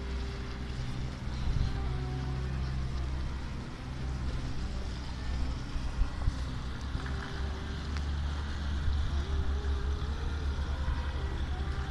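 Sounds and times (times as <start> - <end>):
faint outdoor hiss: 0.0 - 11.9.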